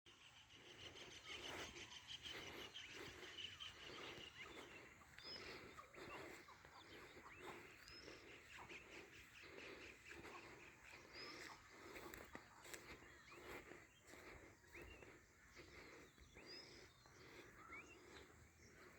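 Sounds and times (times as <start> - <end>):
birds chirping: 0.1 - 18.9.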